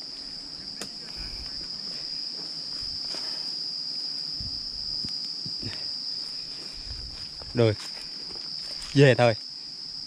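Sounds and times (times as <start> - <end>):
insects shrilling: 0.0 - 10.0.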